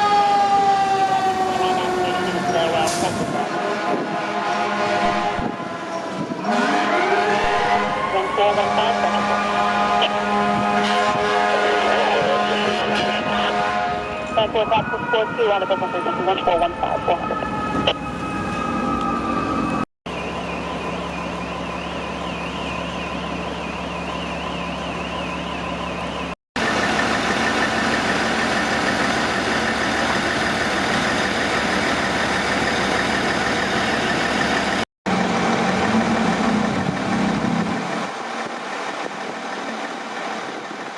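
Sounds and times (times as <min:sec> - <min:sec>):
fire truck sirens: 0:00.0 - 0:40.9
truck engines running: 0:00.0 - 0:40.9.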